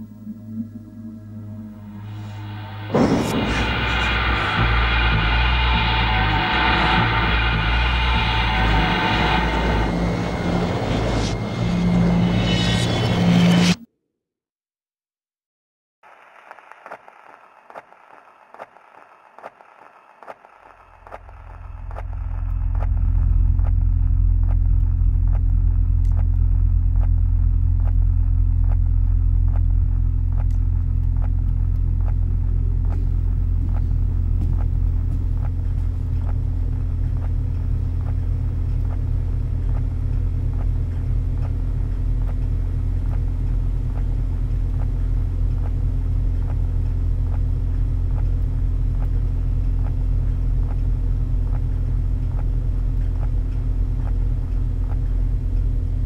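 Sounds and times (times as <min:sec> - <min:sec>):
low rumble with deep hum: 0:00.0 - 0:13.6, 0:21.1 - 0:56.0.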